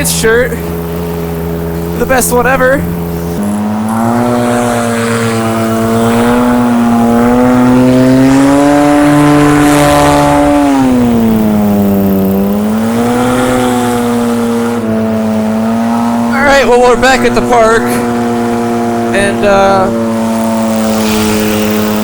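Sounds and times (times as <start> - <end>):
paramotor engine and propeller: 0.0 - 22.0.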